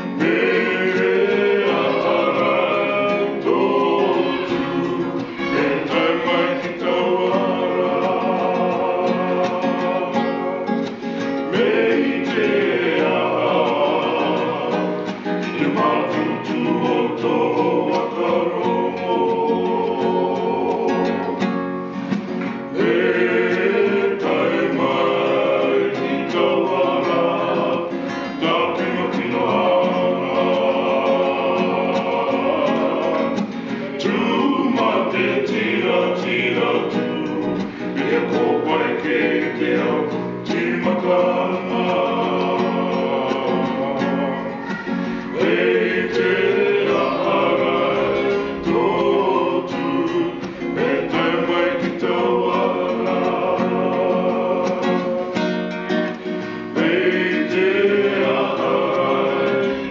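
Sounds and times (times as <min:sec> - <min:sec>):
male vocal quartet singing: 0:00.0 - 0:59.9
strummed acoustic guitar: 0:00.0 - 0:59.9.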